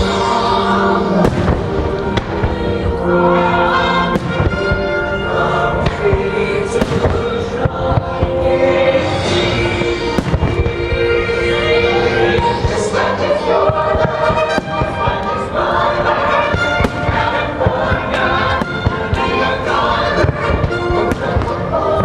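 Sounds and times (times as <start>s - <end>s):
choir singing: 0.0s - 22.0s
fireworks bangs and crackles: 0.0s - 22.0s
orchestral music: 0.0s - 22.0s.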